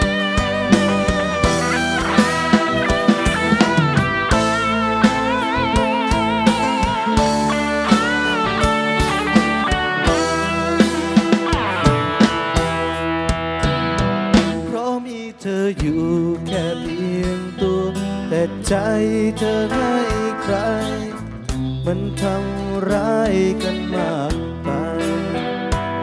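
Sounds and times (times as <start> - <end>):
bass guitar: 0.0 - 14.9, 15.8 - 26.0
drum kit: 0.0 - 17.6, 18.6 - 22.3, 24.3 - 26.0
lead electric guitar with vibrato: 0.0 - 26.0.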